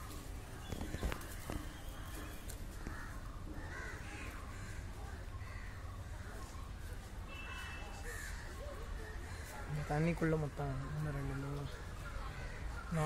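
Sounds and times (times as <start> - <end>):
crows cawing: 1.0 - 6.6, 7.3 - 13.0.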